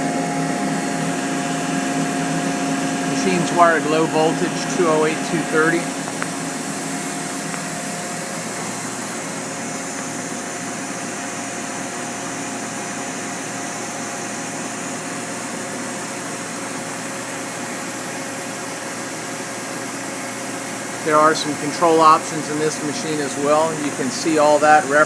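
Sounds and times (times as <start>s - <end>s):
fan whirring hum: 0.0s - 25.0s.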